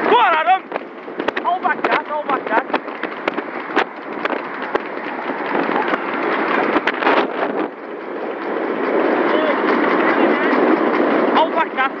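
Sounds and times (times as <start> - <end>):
car road noise: 0.0 - 12.0
wind buffeting microphone: 0.0 - 12.0.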